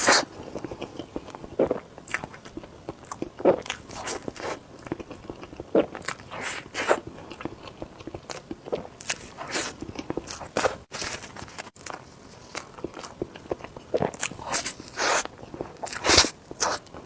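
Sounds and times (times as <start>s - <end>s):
close-miked chewing: 0.0s - 17.0s.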